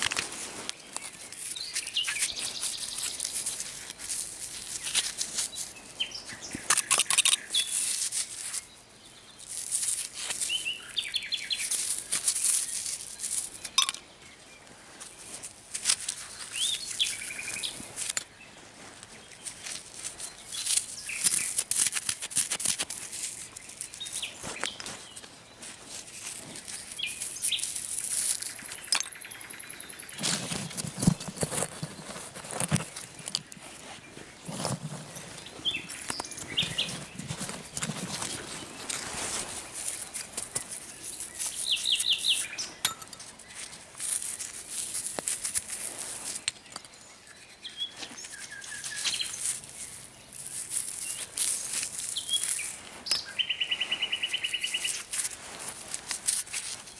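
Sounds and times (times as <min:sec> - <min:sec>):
hands scraping through soil: 0:00.0 - 0:56.9
bird chirping: 0:00.7 - 0:03.7, 0:04.6 - 0:09.7, 0:10.4 - 0:15.4, 0:16.2 - 0:21.6, 0:23.4 - 0:40.1, 0:40.8 - 0:43.9, 0:46.4 - 0:55.1.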